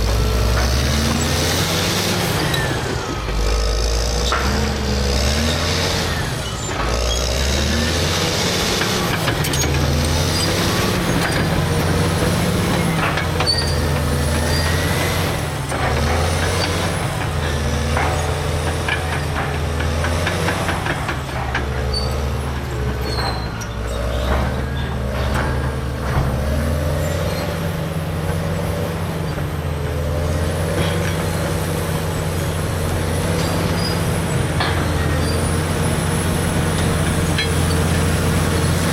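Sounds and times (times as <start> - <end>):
dozer diesel engine under load: 0.0 - 38.9
clanks and knocks: 6.7 - 38.9.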